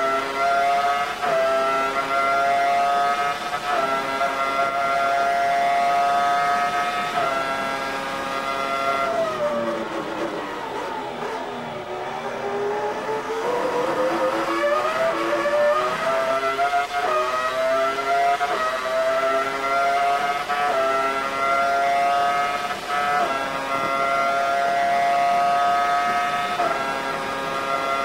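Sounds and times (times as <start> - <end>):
racing car engine at high revs: 0.0 - 28.0.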